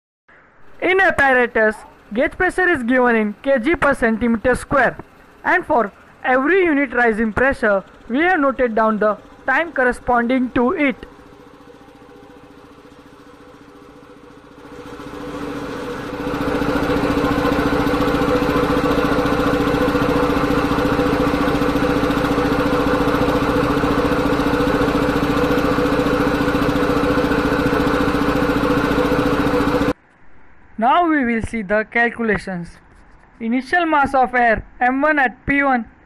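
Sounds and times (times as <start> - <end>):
air compressor running: 0.6 - 30.0.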